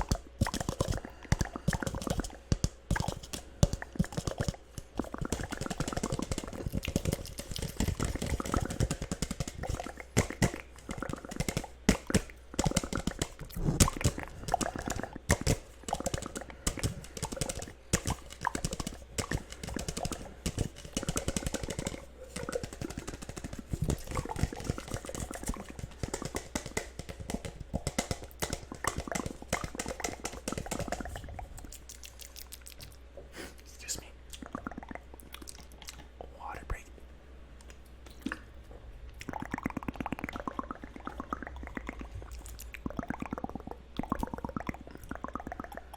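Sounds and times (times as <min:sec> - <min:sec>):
wet mouth clicks and smacks: 0:00.0 - 0:36.2, 0:37.6 - 0:45.9.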